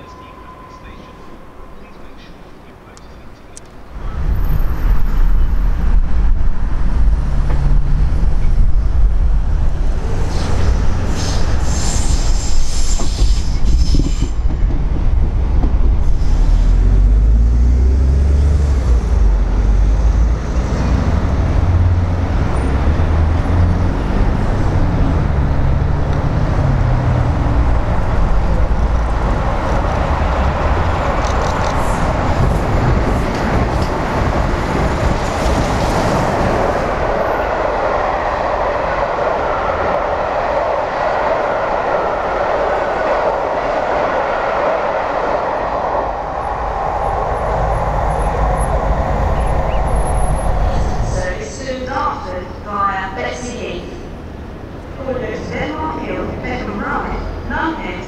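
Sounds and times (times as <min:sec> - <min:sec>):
wheels rushing on rail: 0:00.0 - 0:58.0.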